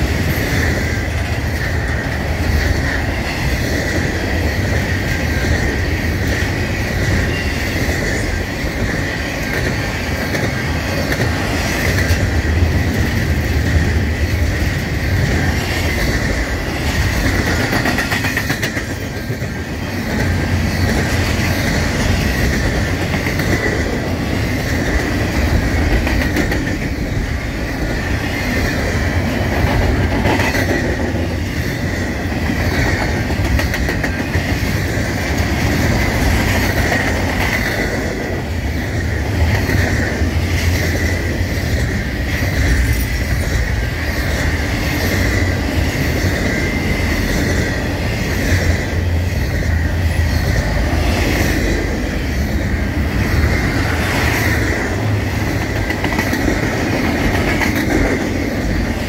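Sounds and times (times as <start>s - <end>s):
rail clacks: 0.0s - 59.0s
train wheels rumbling on rail: 0.0s - 59.0s.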